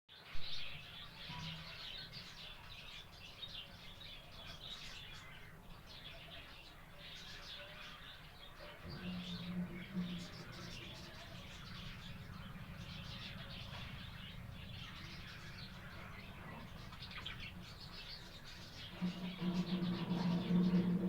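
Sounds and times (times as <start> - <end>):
parrots chirping and chattering: 0.8 - 21.0.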